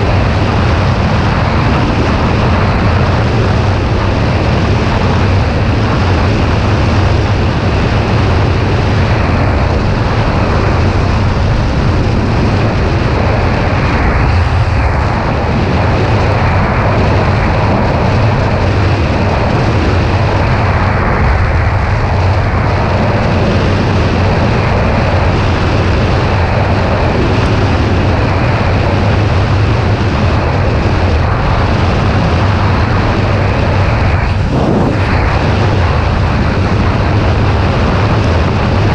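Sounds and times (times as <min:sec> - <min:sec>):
wind roar on microphone: 0:00.0 - 0:38.9.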